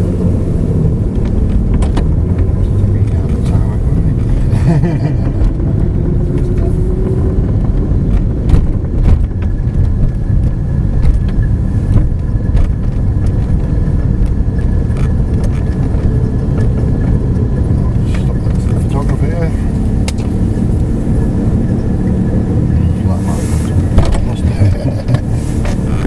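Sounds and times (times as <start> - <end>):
engine and road rumble in car: 0.0 - 26.0
sharp clicks and knocks: 1.0 - 4.4, 5.1 - 22.4, 23.7 - 26.0.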